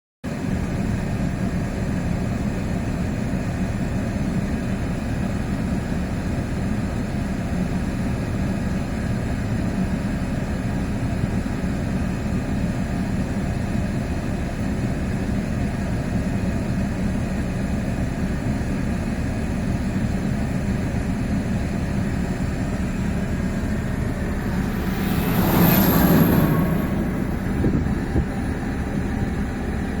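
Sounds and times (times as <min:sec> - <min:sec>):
diesel truck engine running: 0:00.3 - 0:30.0.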